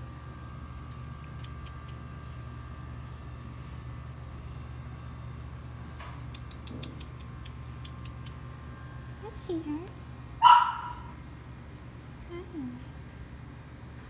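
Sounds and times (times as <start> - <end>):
thin steady whine: 0.0 - 6.4, 7.2 - 14.0
low machine hum: 0.0 - 14.0.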